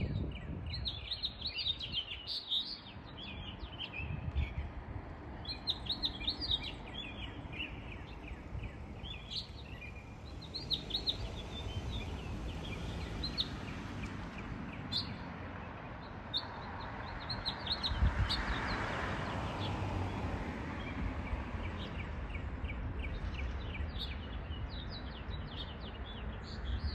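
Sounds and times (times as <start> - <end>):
small songbirds chirping: 0.0 - 26.9.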